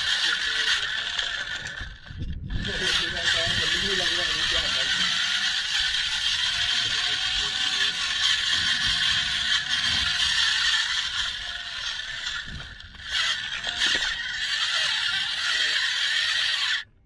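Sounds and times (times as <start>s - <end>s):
toy motor whirring and grinding: 0.0s - 17.0s.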